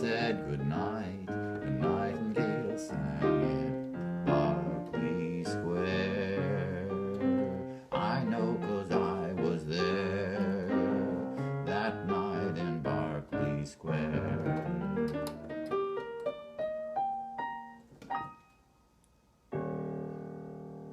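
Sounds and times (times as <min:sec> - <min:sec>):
piano chords and notes: 0:00.0 - 0:20.9.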